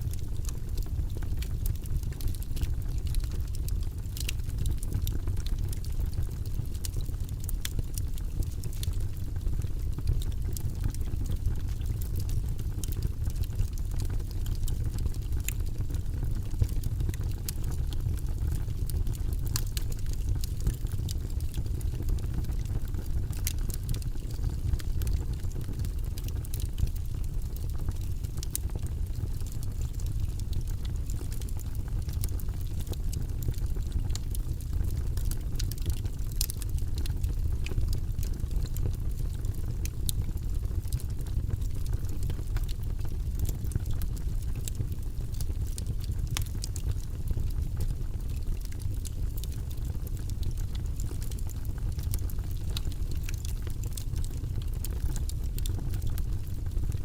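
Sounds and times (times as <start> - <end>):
log fire burning: 0.0 - 57.0
wood crackling and popping: 0.0 - 57.0.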